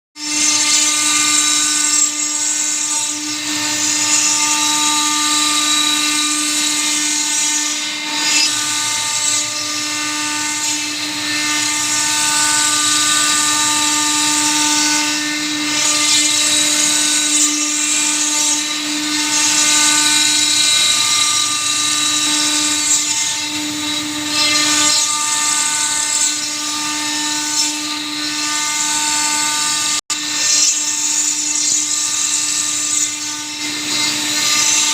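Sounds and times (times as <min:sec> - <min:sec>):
router spindle whine: 0:00.2 - 0:34.9.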